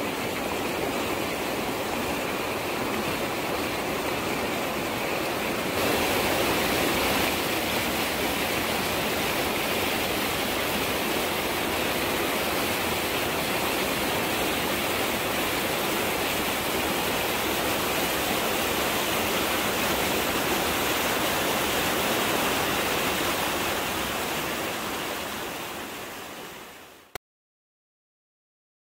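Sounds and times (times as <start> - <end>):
waterfall rushing: 0.0 - 27.1.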